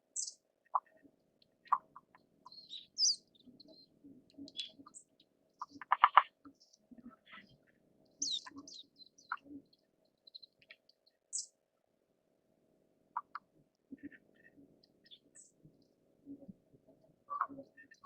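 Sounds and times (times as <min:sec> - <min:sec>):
small birds chirping: 0:00.0 - 0:11.6, 0:13.2 - 0:18.0.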